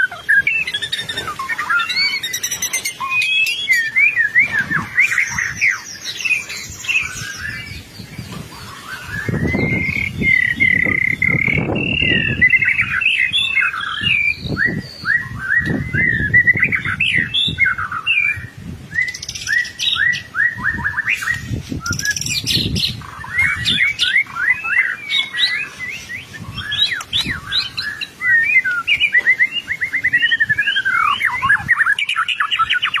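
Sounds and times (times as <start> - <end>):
bird song whistles and chatter: 0.0 - 33.0.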